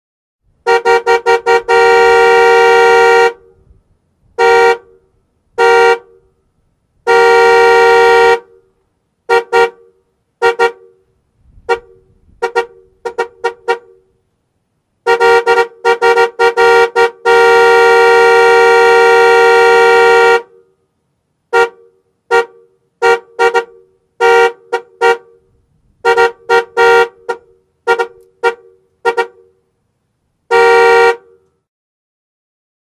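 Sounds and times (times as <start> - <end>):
car horn honking: 0.6 - 6.4, 7.0 - 14.2, 15.0 - 20.9, 21.5 - 29.7, 30.5 - 31.7.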